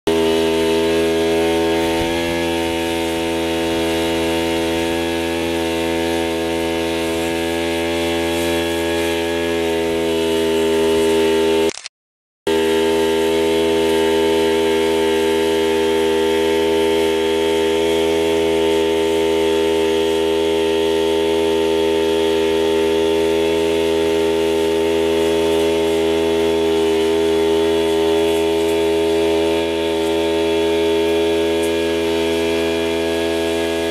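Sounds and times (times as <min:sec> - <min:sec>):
small engine running: 0:00.0 - 0:11.9, 0:12.5 - 0:33.9.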